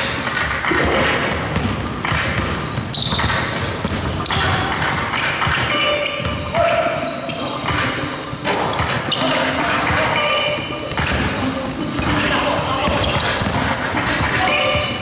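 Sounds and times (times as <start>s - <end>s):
basketball bouncing on court: 0.0s - 15.0s.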